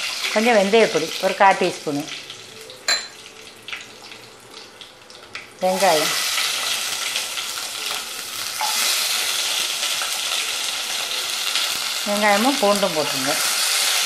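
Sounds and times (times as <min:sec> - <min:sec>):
oil sizzling in a pot: 0:00.0 - 0:14.0
onions sizzling in oil: 0:00.0 - 0:14.0.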